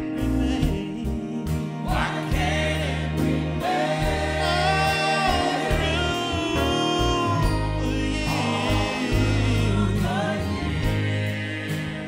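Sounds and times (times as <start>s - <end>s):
gospel choir singing: 0.0s - 12.0s
instrumental backing: 0.0s - 12.0s.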